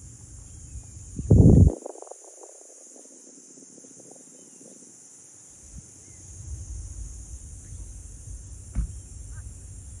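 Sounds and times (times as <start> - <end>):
wind rumble on microphone: 0.0 - 4.9, 5.7 - 10.0
high-pitched insect drone: 0.0 - 10.0.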